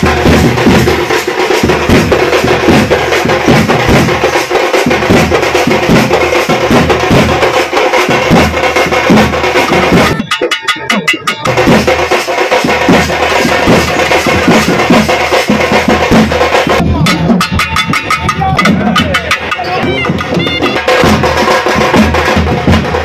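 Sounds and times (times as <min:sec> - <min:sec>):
fast percussion-driven music: 0:00.0 - 0:23.0.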